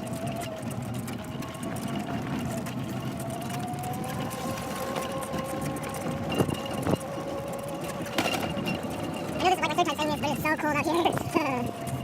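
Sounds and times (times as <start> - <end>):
golf cart motor whining: 0.0 - 12.0.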